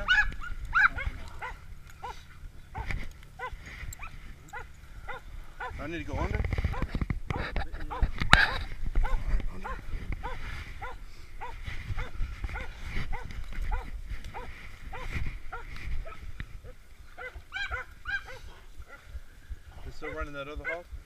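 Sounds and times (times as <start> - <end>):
dog barking: 0.0 - 5.8, 6.7 - 16.2, 17.2 - 19.1, 20.0 - 20.9.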